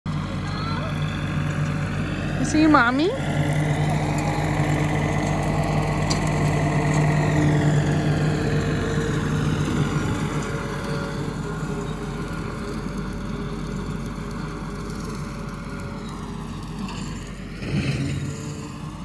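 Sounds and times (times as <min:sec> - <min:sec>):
diesel tractor engine: 0:00.0 - 0:19.0.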